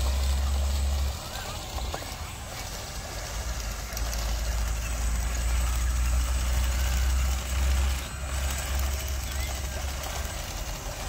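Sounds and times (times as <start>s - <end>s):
low engine rumble of toy bulldozer: 0.0s - 11.0s.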